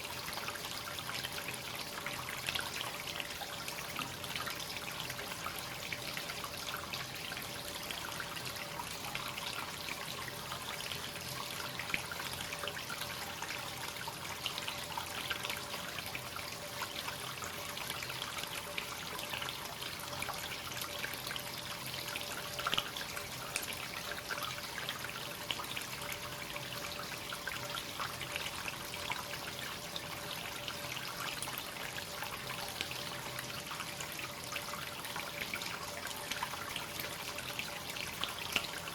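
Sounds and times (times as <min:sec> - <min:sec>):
water running into a bath: 0:00.0 - 0:38.9.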